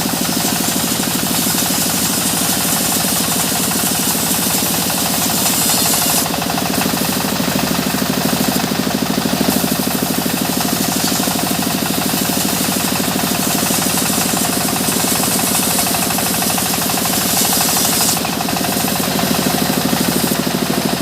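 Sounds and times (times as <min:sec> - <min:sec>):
engine-driven saw running: 0:00.0 - 0:21.0.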